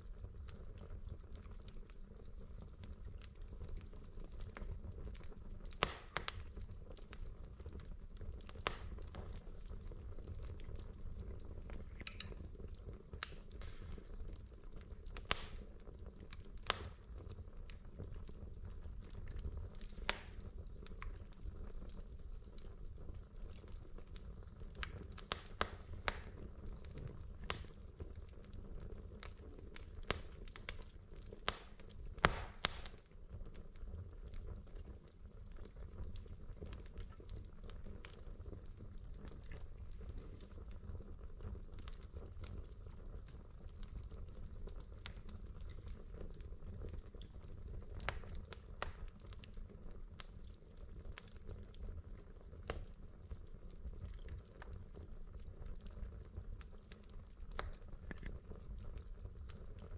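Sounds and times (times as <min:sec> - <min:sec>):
fire crackling and popping: 0:00.0 - 0:59.9
flames rumbling: 0:00.0 - 0:59.9.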